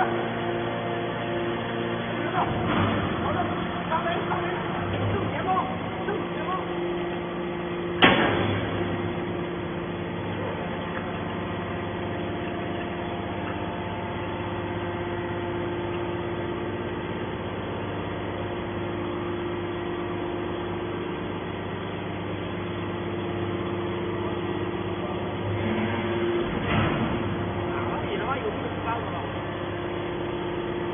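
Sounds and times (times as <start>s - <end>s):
hydraulic power unit humming: 0.0s - 30.9s.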